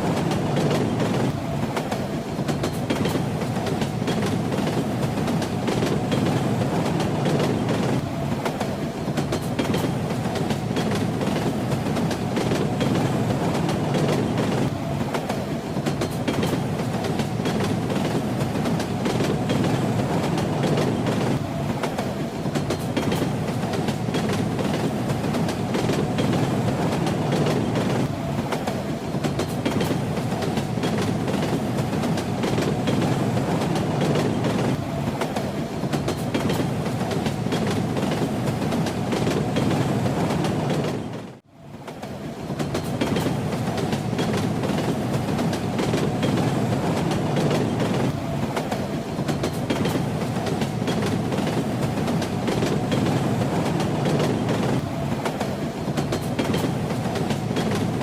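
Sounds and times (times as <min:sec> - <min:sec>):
moving train rumble: 0:00.0 - 0:58.0
train wheels clacking: 0:00.0 - 0:58.0.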